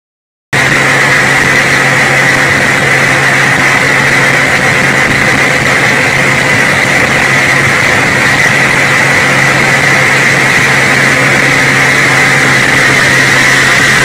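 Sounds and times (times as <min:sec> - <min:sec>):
bus jet-like whine: 0:00.6 - 0:14.0
low engine hum: 0:00.6 - 0:14.0
road noise: 0:00.6 - 0:14.0.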